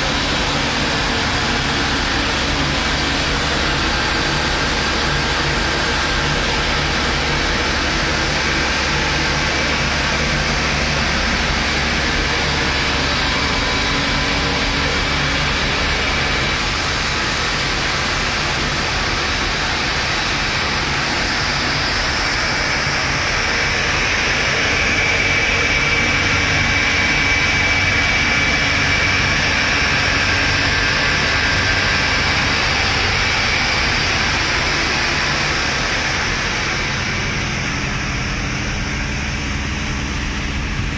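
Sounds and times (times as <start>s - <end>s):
faint high whine: 0.0s - 40.9s
loud machinery roar: 0.0s - 40.9s.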